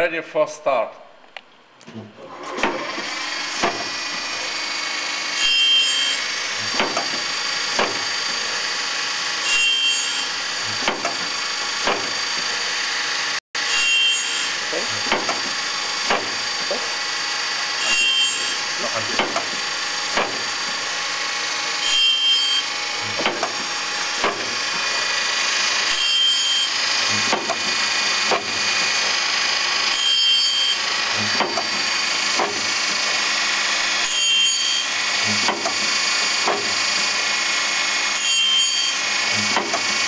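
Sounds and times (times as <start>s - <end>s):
grinding wheel on saw teeth: 2.3s - 40.0s.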